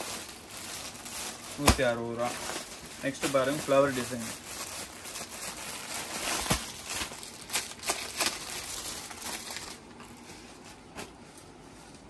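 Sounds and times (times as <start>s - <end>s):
cloth rustling and crinkling: 0.0s - 12.0s.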